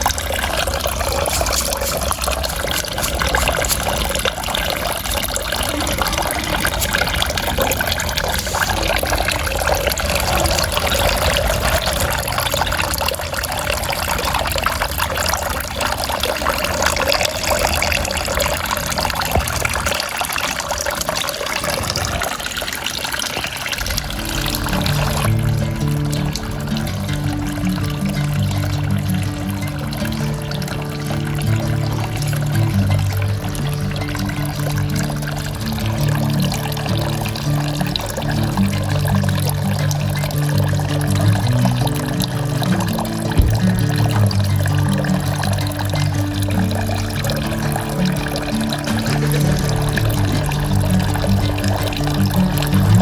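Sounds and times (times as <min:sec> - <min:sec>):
water pouring into pond: 0:00.0 - 0:53.0.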